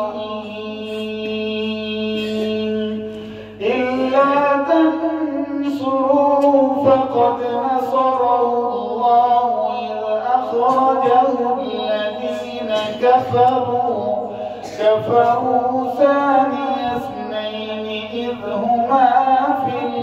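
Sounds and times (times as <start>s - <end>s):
man chanting through microphone: 0.0s - 20.0s.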